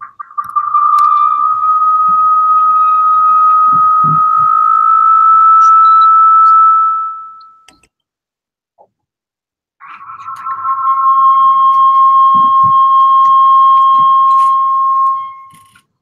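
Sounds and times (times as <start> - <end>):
audio feedback squeal: 0.0 - 7.8, 9.8 - 16.0.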